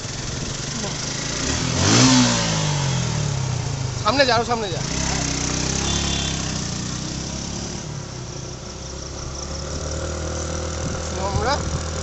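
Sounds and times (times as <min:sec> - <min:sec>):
scooter engine running: 0:00.0 - 0:12.0
wind and road noise: 0:00.0 - 0:12.0.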